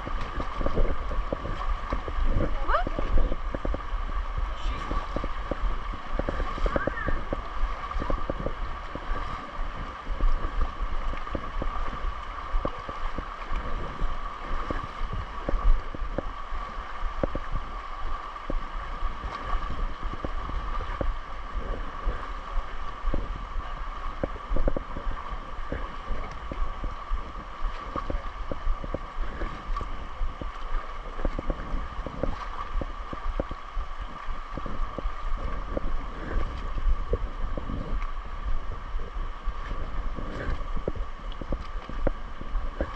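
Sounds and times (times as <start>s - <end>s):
stream rushing: 0.0s - 42.9s
water splashing from wading: 0.0s - 42.9s
wind buffeting microphone: 0.0s - 42.9s.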